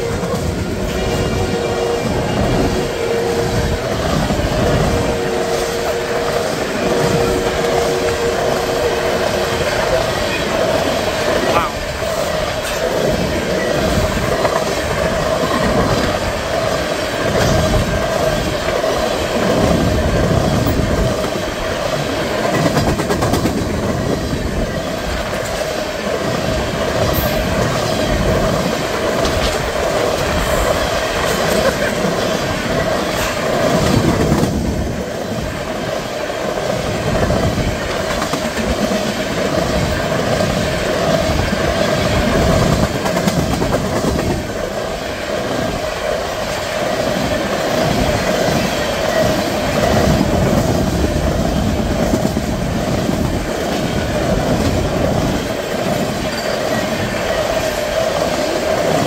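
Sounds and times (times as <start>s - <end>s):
steel wheels rumbling on rail: 0.0s - 59.0s
wheels clicking over rail joints: 0.0s - 59.0s.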